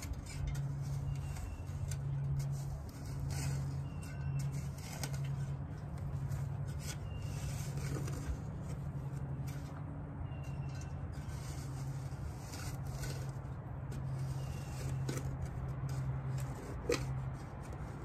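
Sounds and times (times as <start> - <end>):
metal shovel scraping soil: 0.0 - 18.0.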